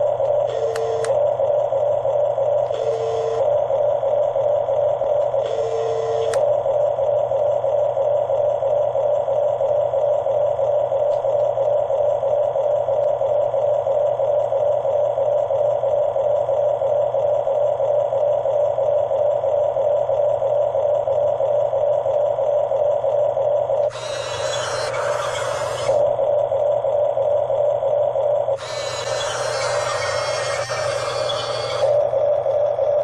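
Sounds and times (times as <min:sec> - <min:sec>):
model bulldozer motor humming: 0:00.0 - 0:33.0.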